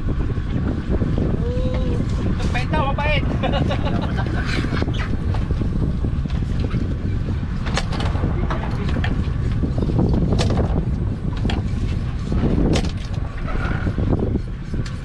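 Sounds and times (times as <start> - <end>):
boat engine rumble: 0.0 - 15.0
wind on microphone: 0.0 - 15.0.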